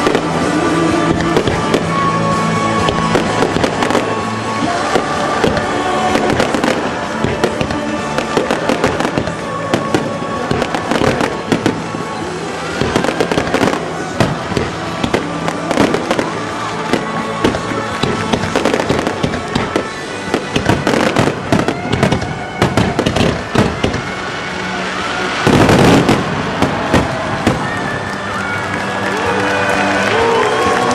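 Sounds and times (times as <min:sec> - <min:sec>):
fireworks bursting: 0:00.0 - 0:29.2.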